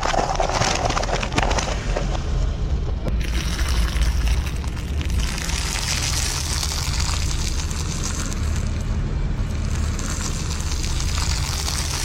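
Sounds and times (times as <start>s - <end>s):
car rolling slowly: 0.0s - 12.0s.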